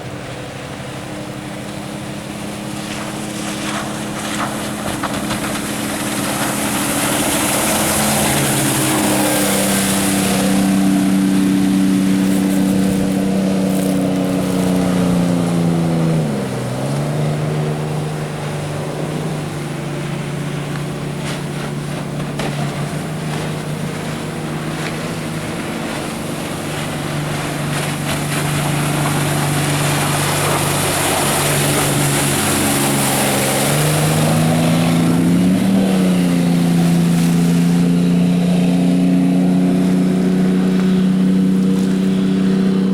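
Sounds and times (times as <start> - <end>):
motorboat engine running: 0.0 - 42.9
wind and water hiss: 0.0 - 42.9.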